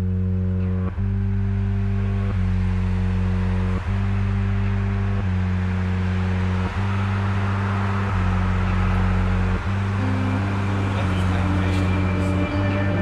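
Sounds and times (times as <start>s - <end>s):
low sustained music chords: 0.0s - 13.0s.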